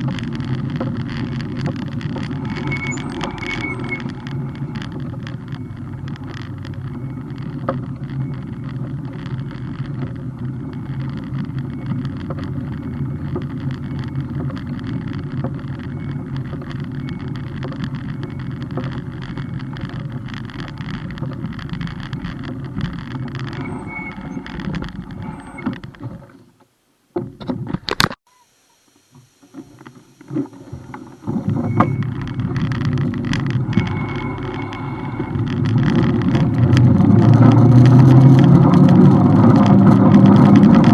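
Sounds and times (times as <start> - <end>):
wind and road noise rumble: 0.0 - 28.2, 28.9 - 40.9.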